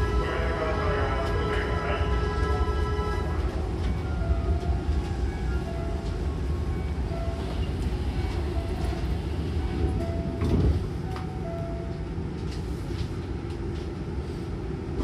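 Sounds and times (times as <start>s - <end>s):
train doors closing: 0.0s - 15.0s.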